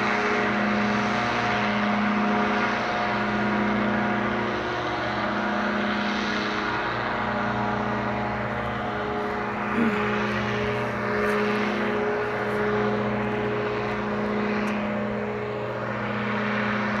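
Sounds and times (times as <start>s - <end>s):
engine and propeller droning: 0.0s - 17.0s.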